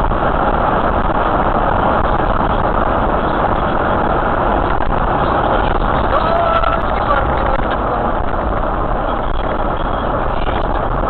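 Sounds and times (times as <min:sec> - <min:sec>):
moving road vehicle: 0:00.0 - 0:11.0.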